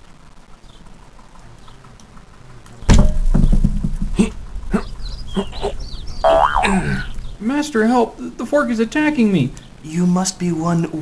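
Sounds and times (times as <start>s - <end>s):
faint birdsong: 0.2s - 11.0s.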